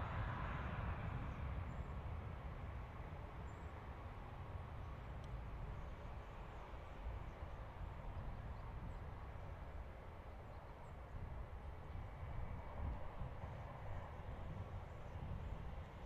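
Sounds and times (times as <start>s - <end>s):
wind buffeting microphone: 0.0s - 9.8s, 11.0s - 16.0s
distant jet airliner rumble: 0.0s - 16.0s.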